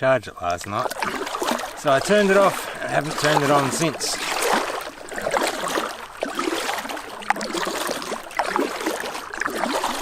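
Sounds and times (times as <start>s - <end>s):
paddle strokes in water: 0.4s - 10.0s
water dripping off paddle: 0.4s - 10.0s.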